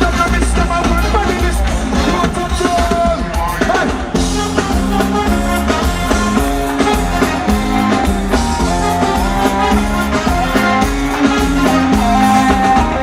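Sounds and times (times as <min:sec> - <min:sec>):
live reggae band: 0:00.0 - 0:13.0.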